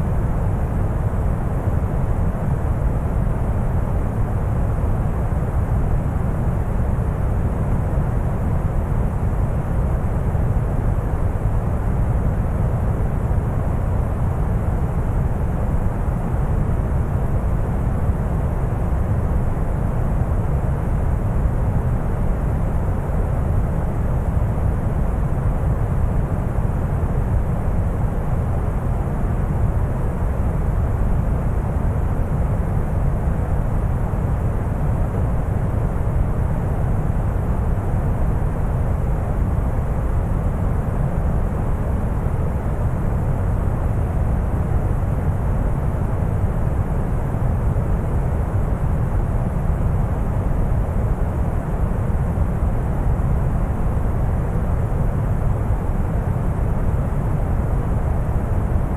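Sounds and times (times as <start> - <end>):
brown noise rumbling hiss: 0.0 - 58.9.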